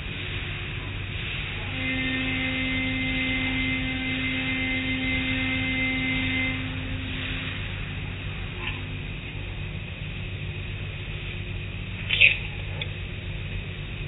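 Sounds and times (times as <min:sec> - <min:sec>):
car wash water and brushes rumbling: 0:00.0 - 0:14.0
steady hum: 0:00.0 - 0:14.0.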